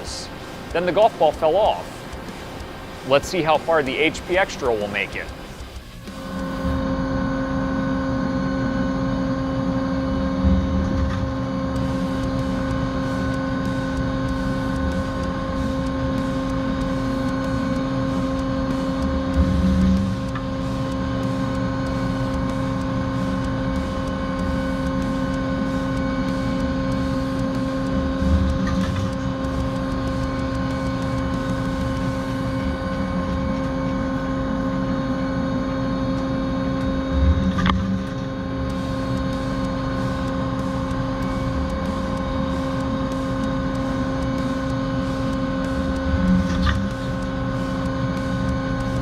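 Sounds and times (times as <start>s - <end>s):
machine humming: 0.0s - 49.0s
short rising whine: 0.0s - 49.0s.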